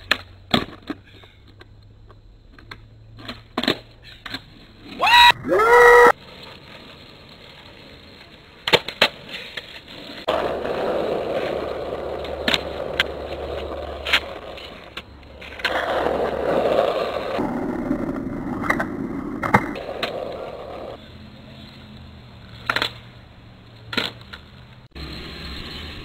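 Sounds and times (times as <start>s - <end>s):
skateboard clacking on pavement: 0.0s - 4.9s, 6.4s - 21.0s, 22.5s - 23.1s, 23.8s - 24.8s
skateboard wheels rumbling: 0.0s - 26.0s.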